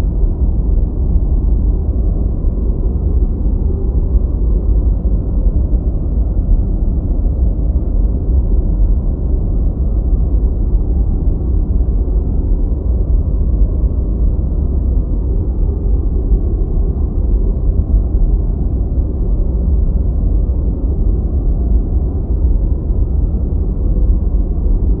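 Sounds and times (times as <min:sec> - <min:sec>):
deep rumbling white noise: 0:00.0 - 0:25.0.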